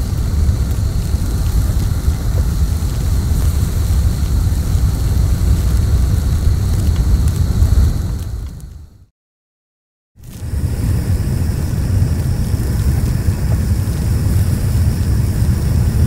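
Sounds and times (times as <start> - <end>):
blow torch flame roaring: 0.0 - 9.1, 10.2 - 16.0.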